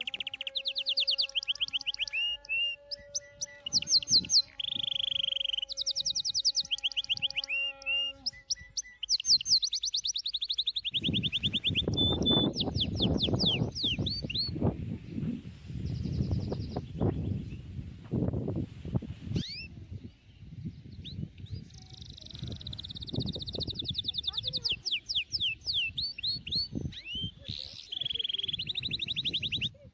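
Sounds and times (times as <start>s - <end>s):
songbirds chirping trills: 0.0s - 29.9s.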